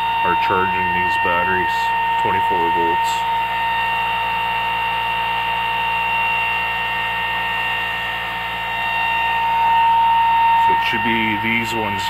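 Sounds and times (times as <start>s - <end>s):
low buzz: 0.0s - 12.0s
motor high-pitched whine: 0.0s - 12.0s.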